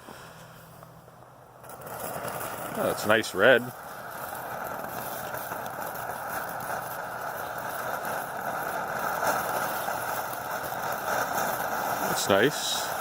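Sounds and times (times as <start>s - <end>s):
fountain firework hissing sparks: 0.0s - 13.0s.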